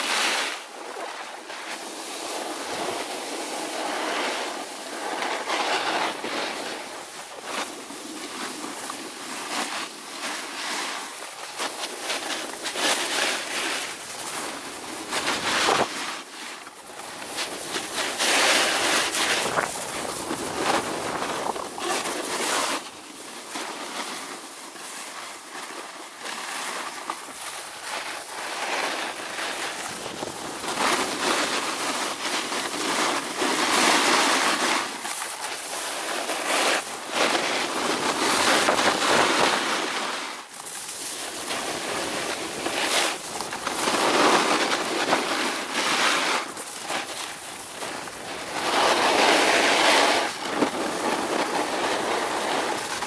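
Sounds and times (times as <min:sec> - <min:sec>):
snowboard scraping on snow: 0:00.0 - 0:53.0.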